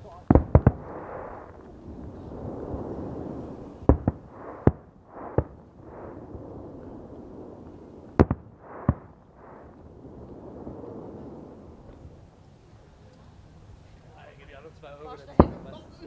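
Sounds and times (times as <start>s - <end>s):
fireworks sharp bangs: 0.0s - 16.0s
rumble of distant fireworks: 0.0s - 16.0s.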